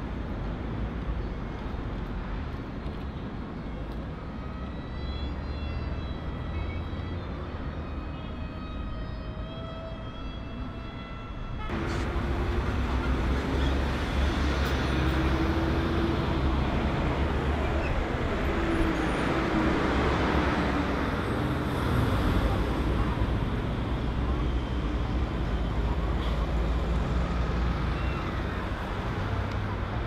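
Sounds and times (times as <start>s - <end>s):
city traffic roar: 0.0s - 30.0s.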